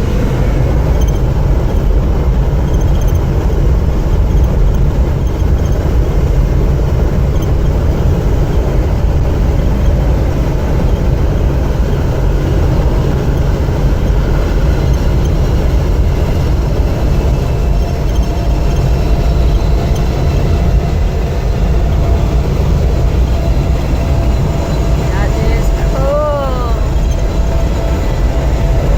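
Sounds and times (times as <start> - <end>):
low rumble of travel at speed: 0.0 - 28.9.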